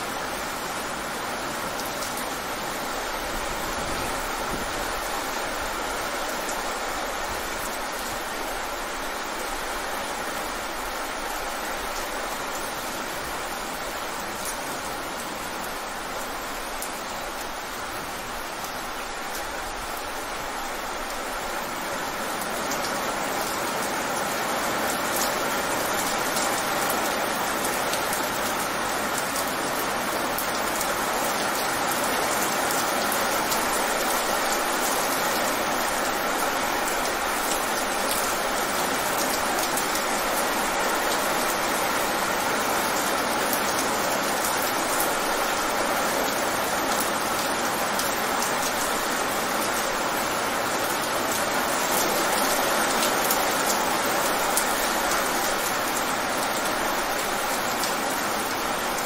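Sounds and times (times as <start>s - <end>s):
rain falling on wet pavement: 0.0s - 59.0s.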